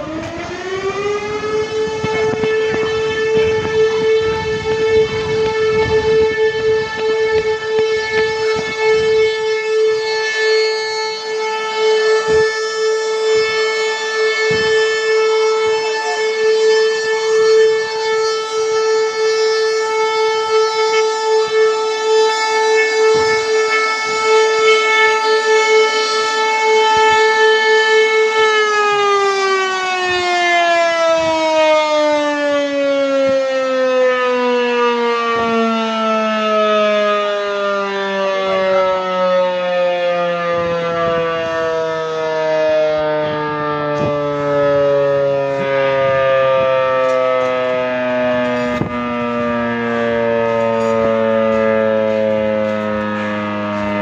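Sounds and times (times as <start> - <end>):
fire alarm siren wailing: 0.0 - 54.0.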